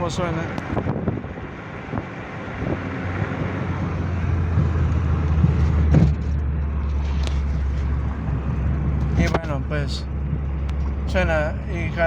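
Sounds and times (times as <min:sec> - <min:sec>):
car engine and exhaust drone: 0:00.0 - 0:12.0.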